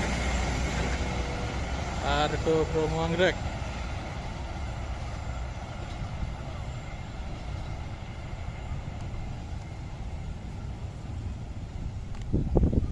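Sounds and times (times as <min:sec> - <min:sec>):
rumble of passing vehicles: 0:00.0 - 0:12.9.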